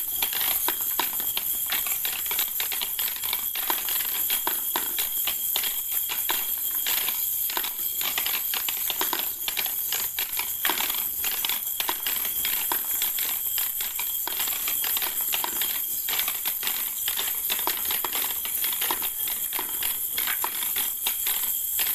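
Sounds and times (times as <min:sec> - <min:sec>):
plastic balls clattering down: 0:00.0 - 0:21.9
steady high hiss: 0:00.0 - 0:21.9.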